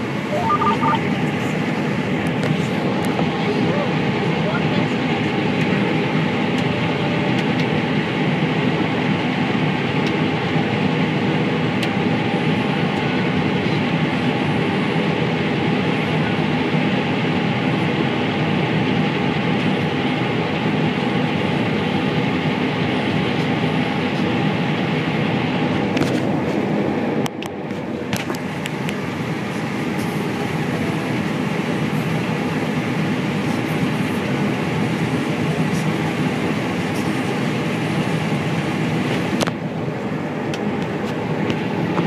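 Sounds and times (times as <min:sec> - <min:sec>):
combine harvester engine drone: 0:00.0 - 0:42.0.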